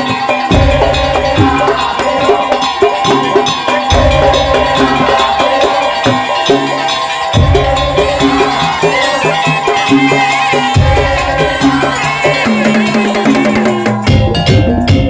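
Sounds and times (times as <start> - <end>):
clanking cowbell-like percussion: 0.0 - 15.0
high melody line: 0.0 - 15.0.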